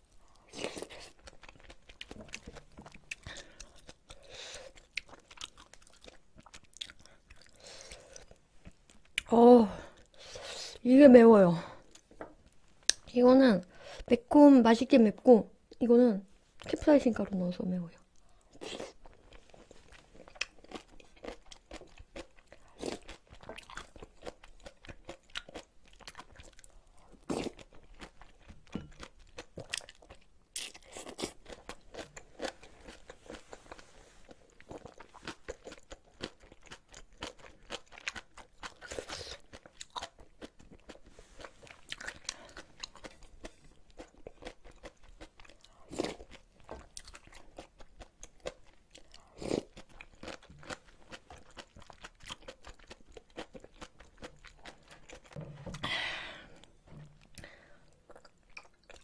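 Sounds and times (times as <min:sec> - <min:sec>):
person chewing crunchy food: 0:00.2 - 0:09.3, 0:18.2 - 0:55.8, 0:56.4 - 0:59.0.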